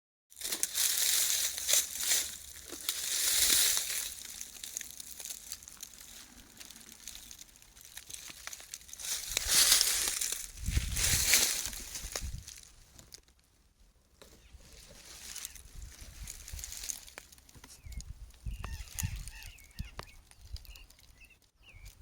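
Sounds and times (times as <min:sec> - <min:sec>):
dry vegetation rustling: 0:00.3 - 0:22.0.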